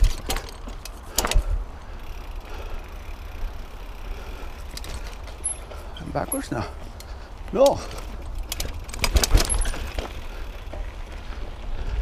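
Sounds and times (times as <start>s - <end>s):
bike clicks and rattles: 0.0s - 12.0s
mountain bike riding on rough trail: 0.0s - 12.0s.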